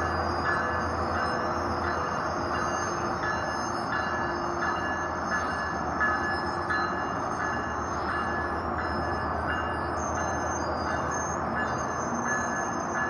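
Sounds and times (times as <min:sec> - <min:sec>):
high ringing tone: 0:00.0 - 0:13.0
train rumbling along tracks: 0:00.0 - 0:13.0.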